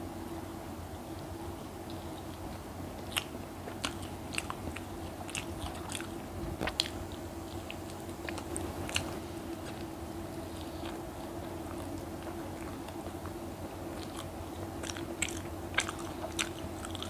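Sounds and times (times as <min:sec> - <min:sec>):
person chewing toast: 0:01.9 - 0:17.0.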